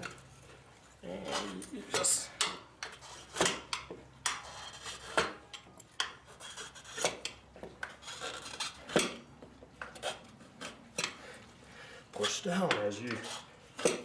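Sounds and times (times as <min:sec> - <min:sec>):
tire rubbing and scraping: 0:00.0 - 0:14.0.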